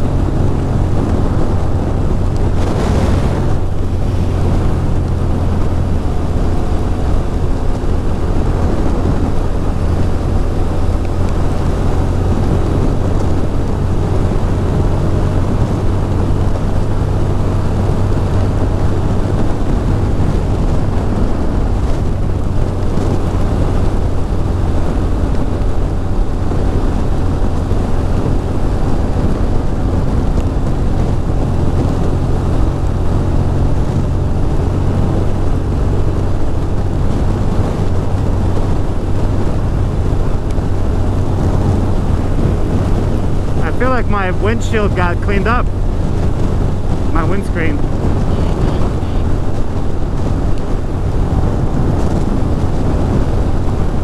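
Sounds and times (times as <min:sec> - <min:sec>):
motorcycle engine cruising: 0:00.0 - 0:54.0
wind noise: 0:00.0 - 0:54.0.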